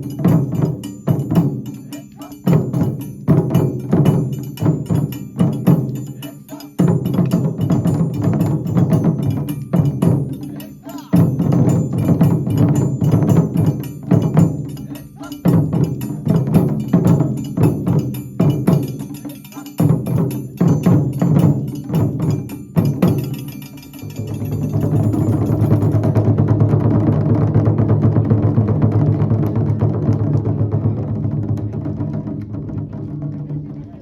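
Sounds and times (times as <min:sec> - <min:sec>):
taiko drums playing fast rhythm: 0:00.0 - 0:34.0.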